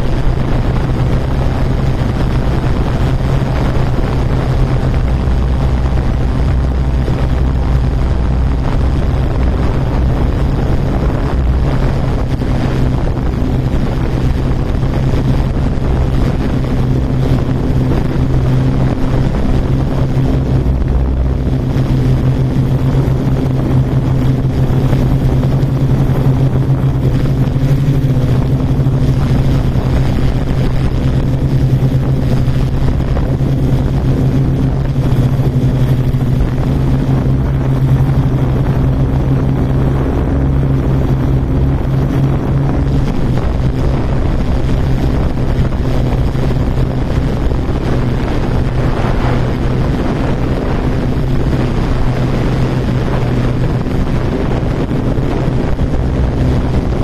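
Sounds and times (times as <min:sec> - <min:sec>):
drone propellers humming: 0:00.0 - 0:57.0
wind noise on microphone: 0:00.0 - 0:57.0.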